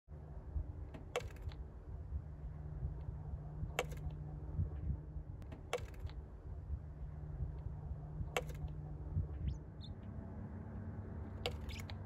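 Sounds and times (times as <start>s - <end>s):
low steady hum: 0.1s - 12.0s.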